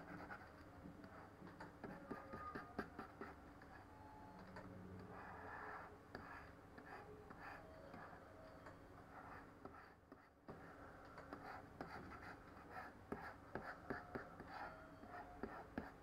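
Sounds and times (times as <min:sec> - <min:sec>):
stylus scratching on pen tablet: 0:00.0 - 0:03.9, 0:05.1 - 0:08.3, 0:09.0 - 0:16.0.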